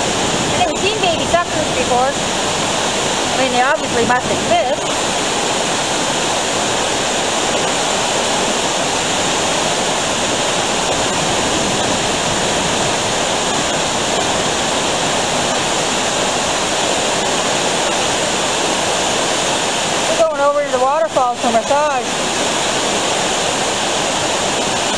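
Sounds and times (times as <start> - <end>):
river running over rapids: 0.0 - 24.9.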